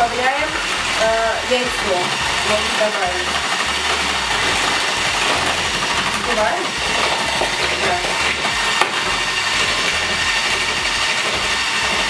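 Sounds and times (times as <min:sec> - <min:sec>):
electric mixer running: 0:00.0 - 0:12.0.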